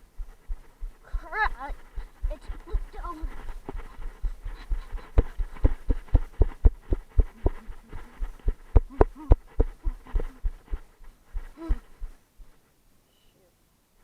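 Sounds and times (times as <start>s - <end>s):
running footsteps: 0.0s - 12.6s.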